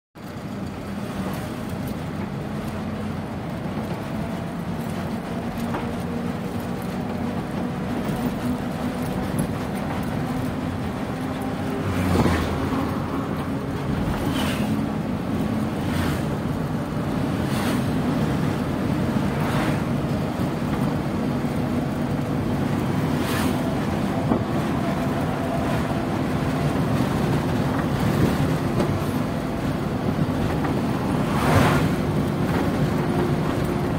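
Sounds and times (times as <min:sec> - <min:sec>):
engine drone and road noise: 0:00.2 - 0:33.9.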